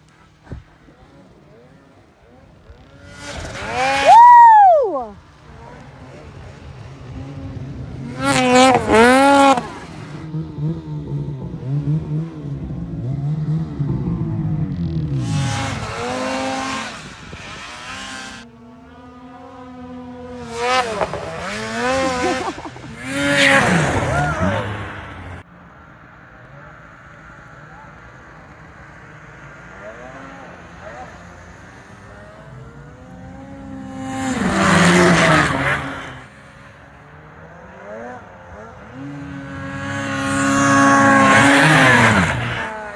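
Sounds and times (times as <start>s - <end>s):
snowmobile engines revving: 0.0s - 42.9s.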